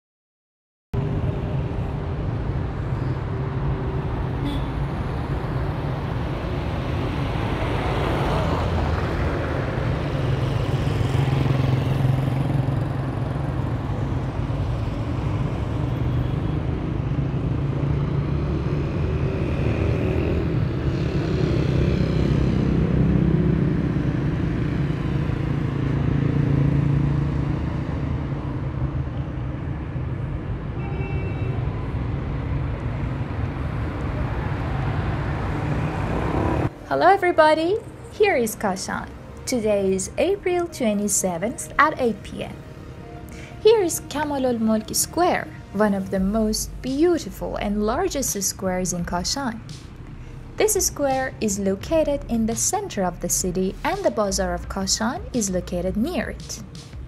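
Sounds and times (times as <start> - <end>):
cars and motorbikes passing: 1.0 - 57.0.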